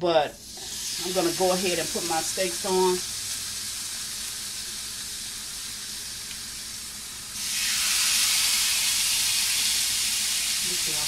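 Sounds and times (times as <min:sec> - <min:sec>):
steak sizzling on a grill pan: 0:00.4 - 0:11.0.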